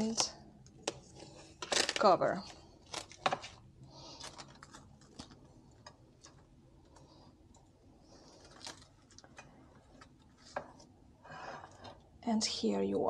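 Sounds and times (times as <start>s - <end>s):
plastic wrap crinkling: 0.0s - 10.9s.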